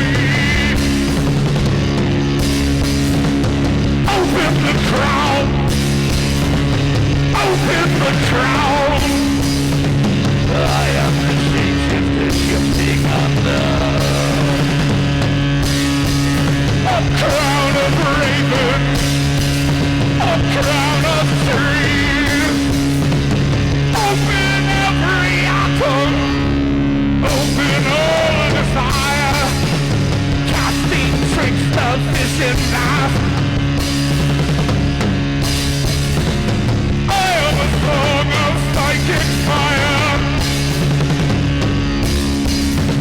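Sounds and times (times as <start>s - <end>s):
band playing live: 0.0s - 43.0s
low drone: 0.0s - 43.0s.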